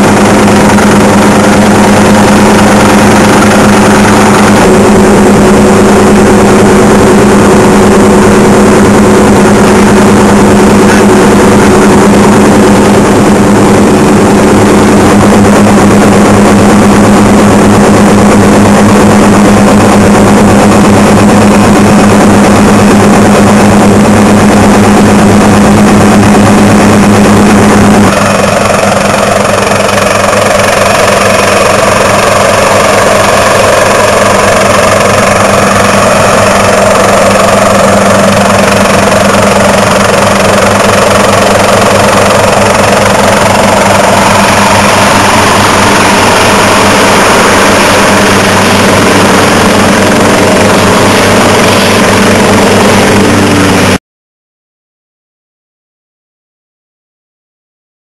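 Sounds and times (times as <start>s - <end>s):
helicopter engine and rotor: 0.0s - 54.0s
higher rushing noise: 0.0s - 54.0s.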